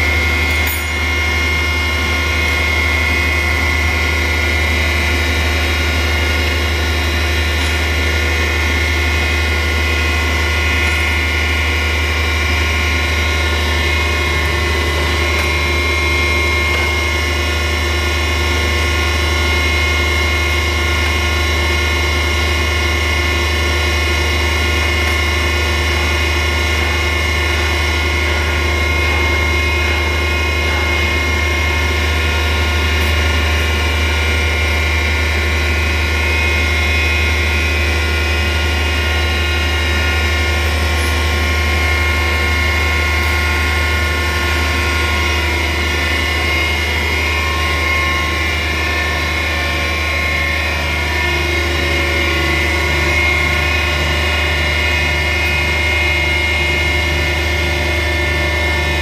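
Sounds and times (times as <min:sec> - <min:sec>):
grinding machine humming: 0:00.0 - 0:59.0.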